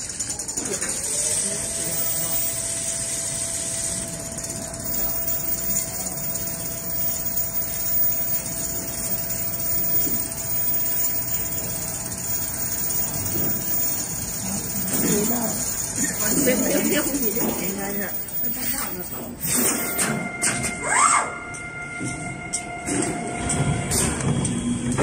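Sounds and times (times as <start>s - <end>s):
sewing machine running: 0.0s - 20.4s
steady tone: 1.5s - 25.0s.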